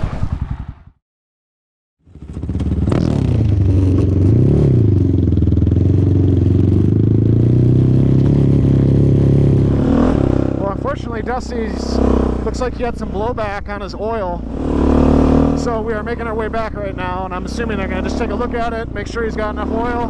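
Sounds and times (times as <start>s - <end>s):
quad engine running: 2.1s - 20.0s.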